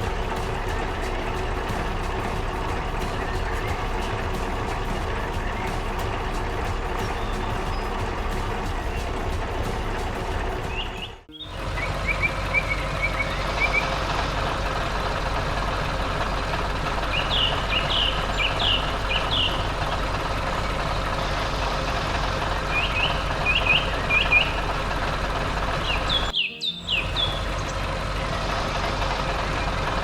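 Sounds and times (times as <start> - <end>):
farm machine engine running: 0.0 - 30.0
small birds chirping: 0.0 - 30.0.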